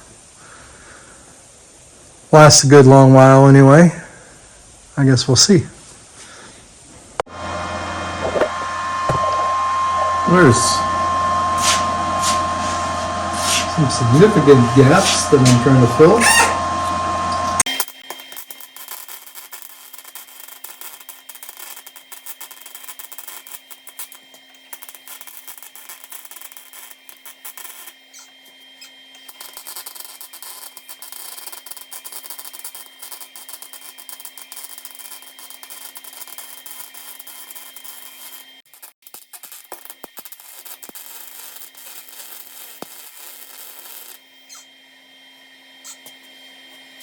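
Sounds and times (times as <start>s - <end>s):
welding arc crackling: 7.0s - 44.7s, 45.8s - 46.4s.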